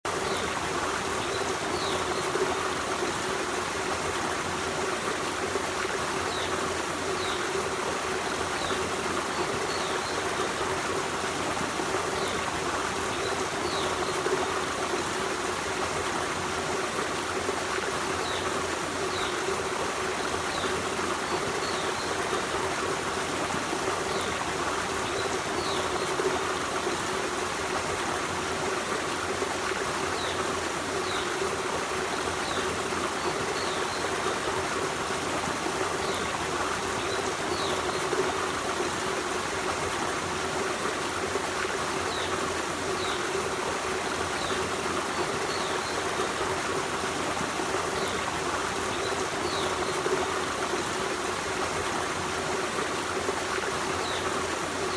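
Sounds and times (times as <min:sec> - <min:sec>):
stream running over rocks: 0:00.1 - 0:54.9.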